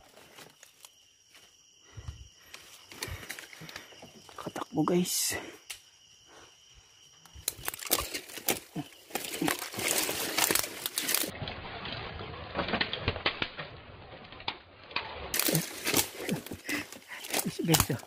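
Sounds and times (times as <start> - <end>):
leaves and twigs rustling: 0.0 - 18.0.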